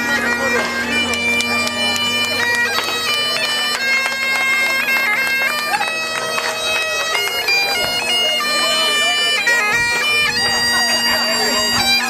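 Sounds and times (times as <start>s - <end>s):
bagpipe chanter melody: 0.0s - 12.0s
bagpipe drone: 0.0s - 12.0s.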